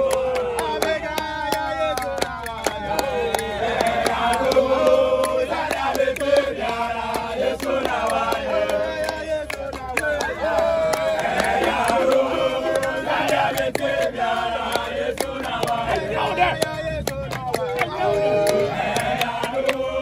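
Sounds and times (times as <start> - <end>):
handclapping: 0.0 - 20.0
men singing a chant: 0.0 - 20.0.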